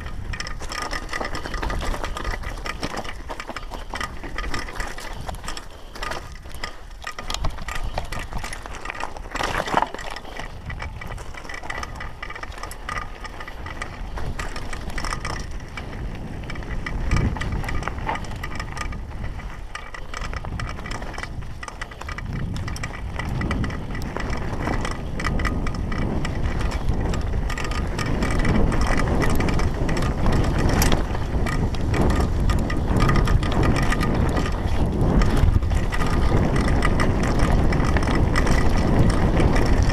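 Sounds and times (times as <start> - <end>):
bike chain rattling: 0.0 - 39.9
tyres crunching over rocks: 0.0 - 39.9.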